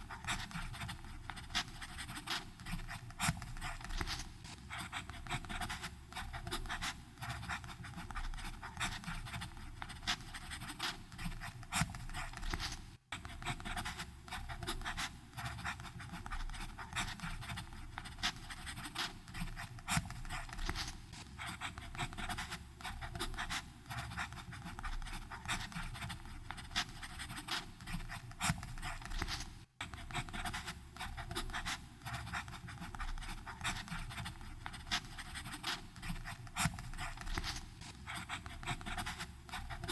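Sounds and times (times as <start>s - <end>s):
pen nib scratching on paper: 0.0s - 39.9s.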